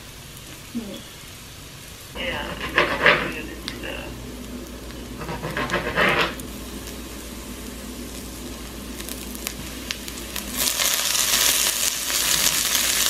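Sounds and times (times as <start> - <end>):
onions sizzling in a skillet: 0.0 - 13.0.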